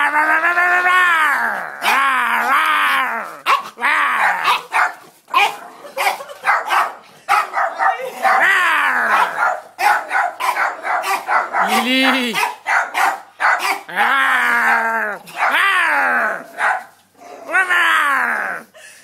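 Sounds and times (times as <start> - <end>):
dogs barking and yelping: 1.6 - 17.5.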